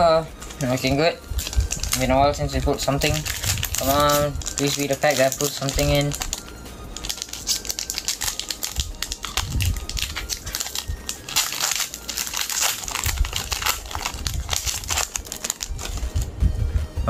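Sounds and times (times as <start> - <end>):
foil wrappers crinkling: 0.4 - 16.3.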